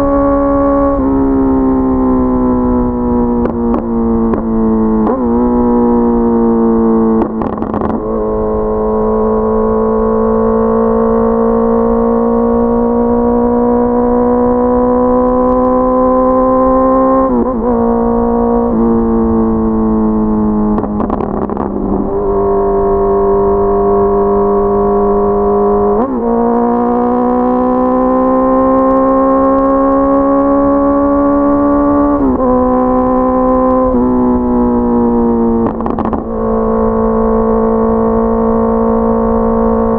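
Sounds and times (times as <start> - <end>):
motorcycle engine pulling under throttle: 0.0 - 39.9.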